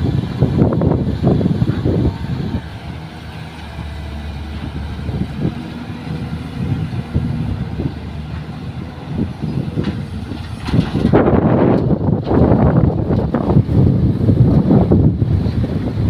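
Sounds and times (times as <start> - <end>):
excavator diesel engine under load: 0.0 - 16.0
wind buffeting microphone: 0.0 - 16.0.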